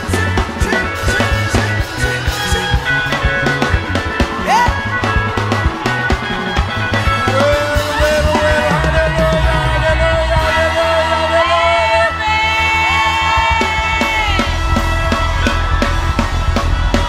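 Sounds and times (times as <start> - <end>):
person singing: 0.0 - 14.6
crowd shouting along: 0.0 - 17.0
worship band playing: 0.0 - 17.0.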